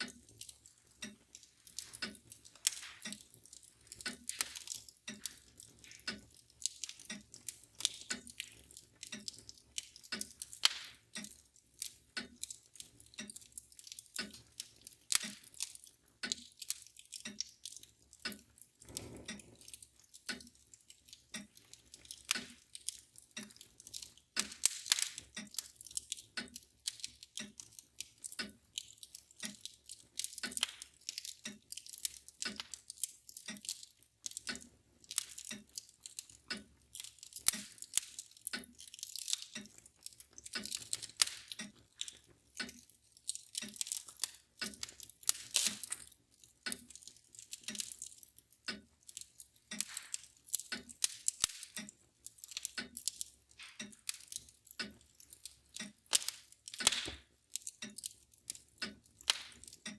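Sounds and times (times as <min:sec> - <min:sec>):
mantle clock ticking: 0:00.0 - 0:59.9
wood fire crackling and popping: 0:00.0 - 0:59.9.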